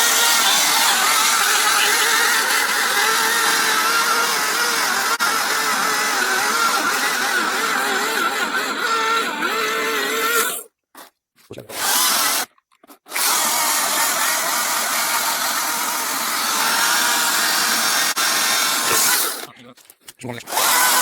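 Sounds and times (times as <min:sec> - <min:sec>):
electric chainsaw motor whining: 0:00.0 - 0:10.6, 0:11.7 - 0:12.5, 0:13.1 - 0:19.5, 0:20.4 - 0:21.0.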